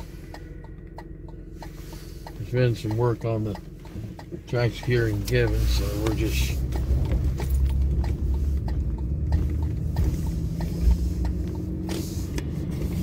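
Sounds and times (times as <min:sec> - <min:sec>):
light ticks: 0:00.0 - 0:12.5
car engine and road rumble: 0:00.0 - 0:13.0.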